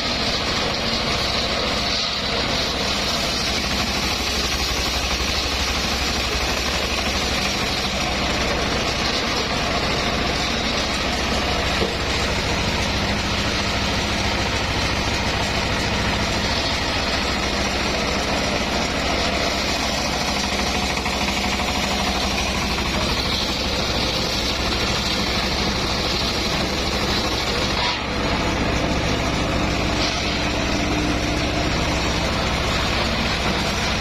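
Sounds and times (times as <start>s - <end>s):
sawmill engine and saw running: 0.0s - 34.0s.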